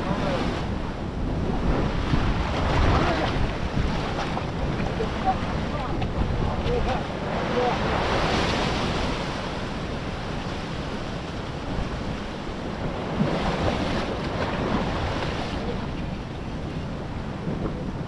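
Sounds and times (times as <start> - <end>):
sea surf washing in: 0.0 - 18.0
wind buffeting microphone: 0.0 - 18.0.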